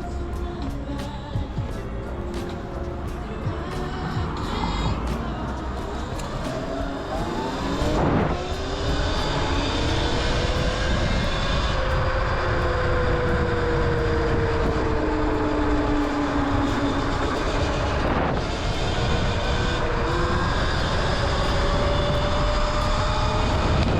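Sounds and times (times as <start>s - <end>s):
wind rumble on microphone: 0.0s - 23.9s
electric motor whining: 3.1s - 23.9s.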